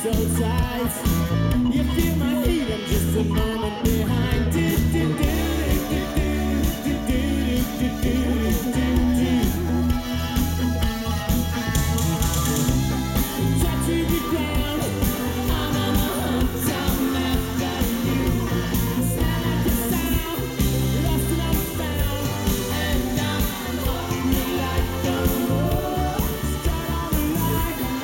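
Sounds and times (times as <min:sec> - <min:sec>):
man singing: 0:00.0 - 0:10.3, 0:12.9 - 0:28.0
live rock band playing: 0:00.0 - 0:28.0.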